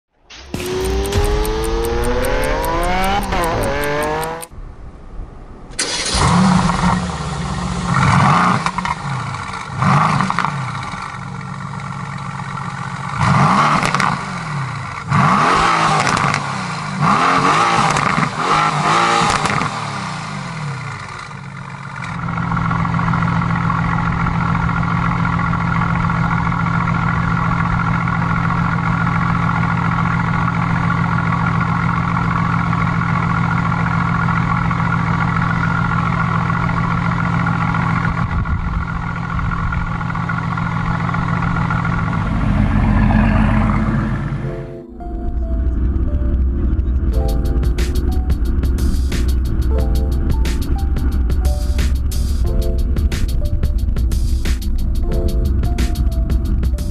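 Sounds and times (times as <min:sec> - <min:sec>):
car engine revving: 0:00.3 - 0:04.6, 0:05.8 - 0:26.6, 0:27.3 - 0:49.8.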